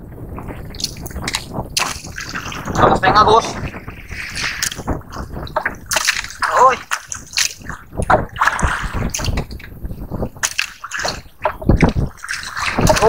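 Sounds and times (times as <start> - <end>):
sea water splashing against boat: 0.2 - 13.0.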